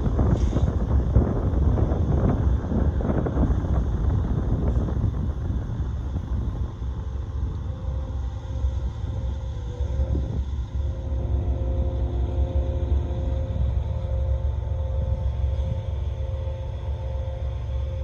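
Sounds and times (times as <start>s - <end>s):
faint steady whine: 0.0s - 18.0s
train rumbling past: 0.0s - 18.0s.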